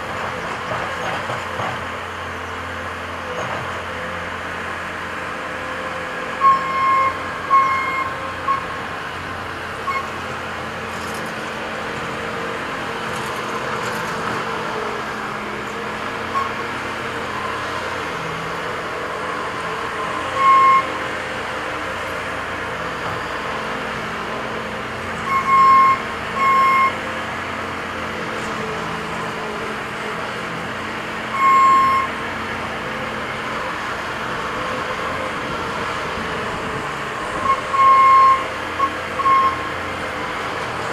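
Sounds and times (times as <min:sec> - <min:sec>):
diesel engines running under load: 0:00.0 - 0:40.9.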